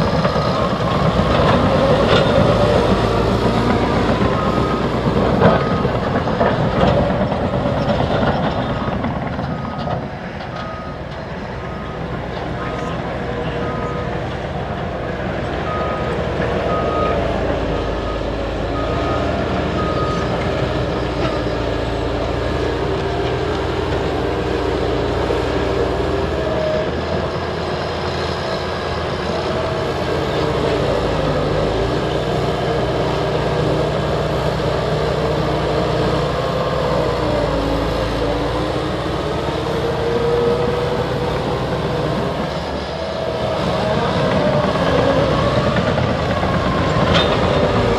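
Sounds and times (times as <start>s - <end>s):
reversing alarm beeping: 0.0s - 27.3s, 29.3s - 47.9s
bulldozer diesel engines under load: 0.0s - 47.9s.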